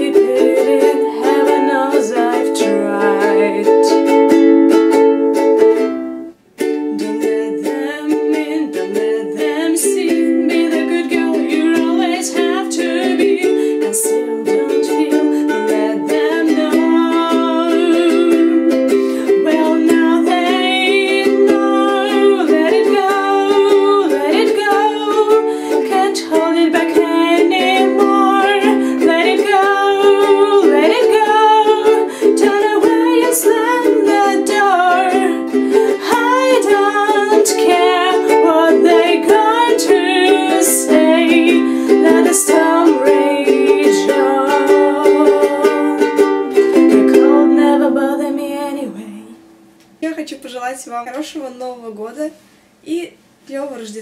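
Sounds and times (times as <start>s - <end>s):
woman singing: 0.0s - 4.9s, 6.8s - 50.3s
ukulele strumming: 0.0s - 50.2s.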